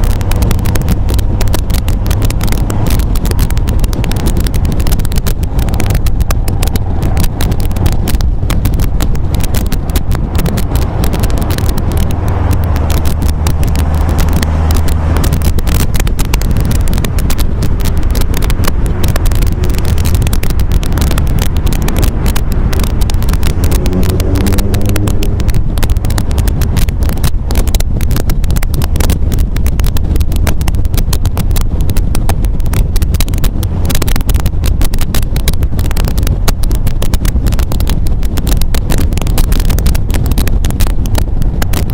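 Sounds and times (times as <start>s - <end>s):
car engine running: 0.0s - 41.9s
wind buffeting microphone: 0.0s - 41.9s.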